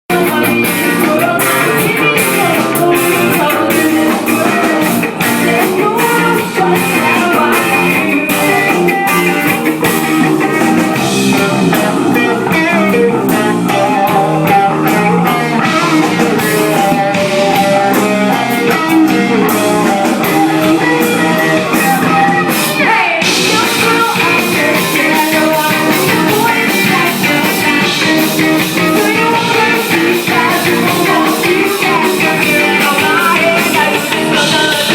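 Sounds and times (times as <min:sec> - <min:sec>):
live blues-rock band: 0:00.1 - 0:34.9.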